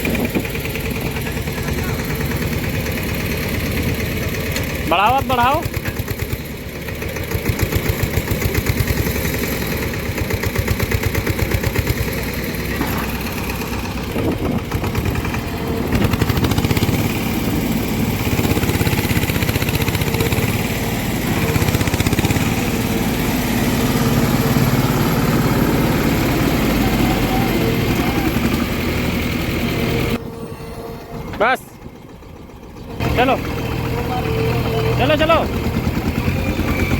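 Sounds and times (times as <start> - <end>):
diesel farm machinery engine: 0.0 - 36.9.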